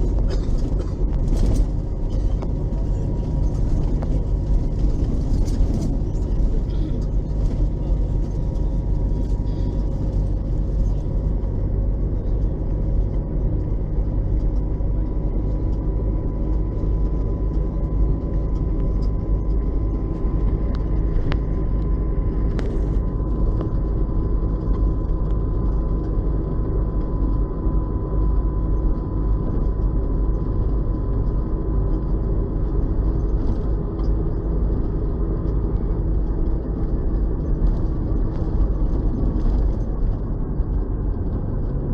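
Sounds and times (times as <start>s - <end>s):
bus engine running: 0.0s - 41.9s.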